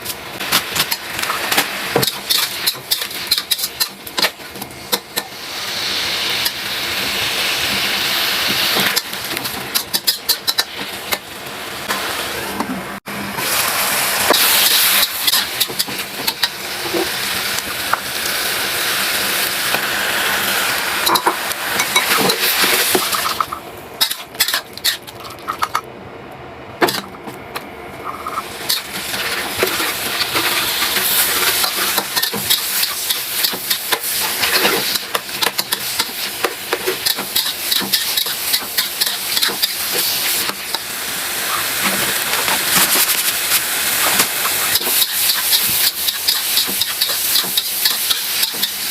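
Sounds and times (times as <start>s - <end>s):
food sizzling in a hot pan: 0.4s - 11.1s, 13.4s - 23.2s, 28.4s - 48.9s.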